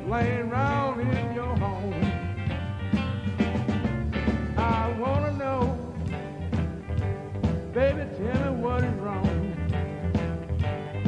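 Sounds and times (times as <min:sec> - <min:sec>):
upbeat swinging dance song: 0:00.0 - 0:11.0.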